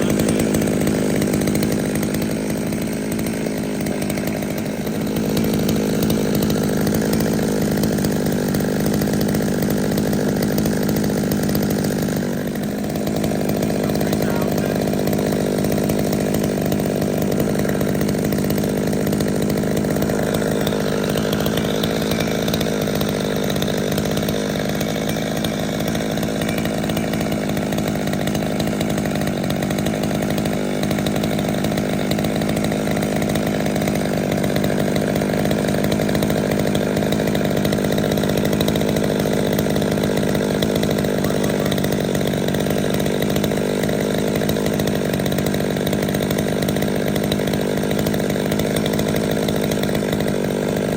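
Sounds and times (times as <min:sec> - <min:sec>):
chainsaw engine running steadily: 0:00.0 - 0:50.9.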